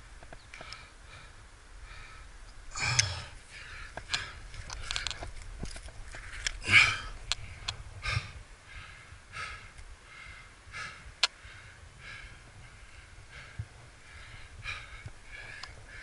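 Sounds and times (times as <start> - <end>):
person breathing quickly: 0.6 - 5.4, 6.0 - 16.0.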